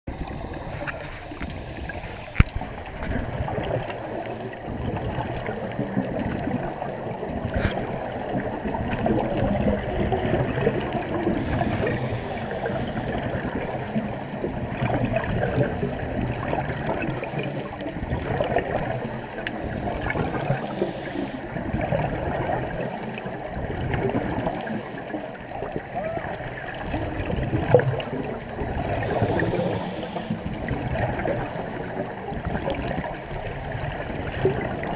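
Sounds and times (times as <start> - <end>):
underwater bubbling: 0.1 - 34.9.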